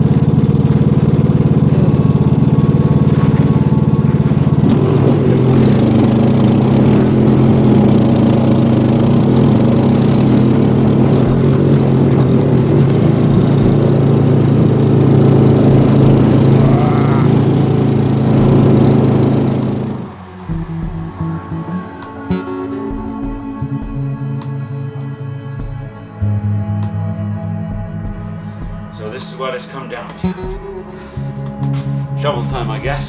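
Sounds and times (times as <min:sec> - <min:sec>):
snowblower engine running: 0:00.0 - 0:33.0.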